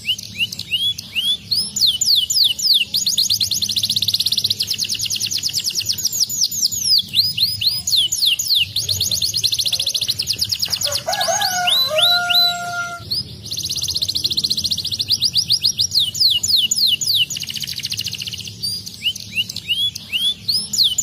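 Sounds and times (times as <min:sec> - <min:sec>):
canary singing trills: 0:00.0 - 0:21.0.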